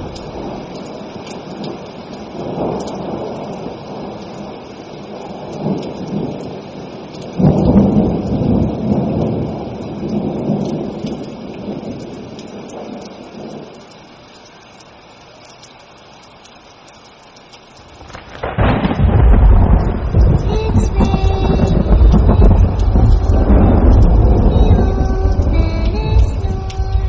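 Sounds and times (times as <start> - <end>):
thunderclap rolling: 0.0 - 13.8, 17.9 - 27.0
steady rain: 0.0 - 27.0.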